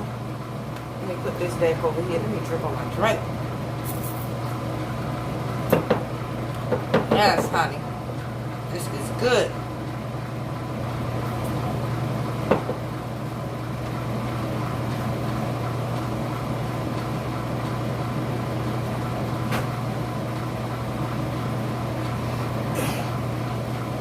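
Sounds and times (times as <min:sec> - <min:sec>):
household appliance humming: 0:00.0 - 0:24.0.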